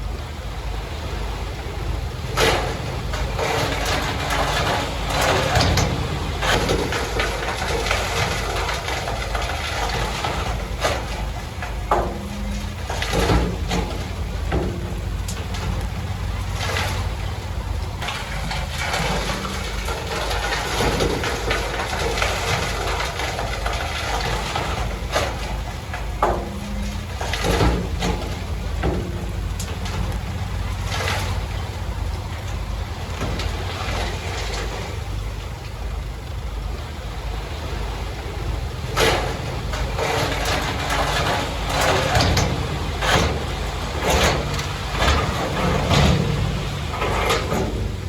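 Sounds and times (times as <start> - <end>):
heavy machinery engine rumbling: 0.0 - 48.0
sharp knocks and clanks: 1.7 - 36.2, 38.2 - 48.0.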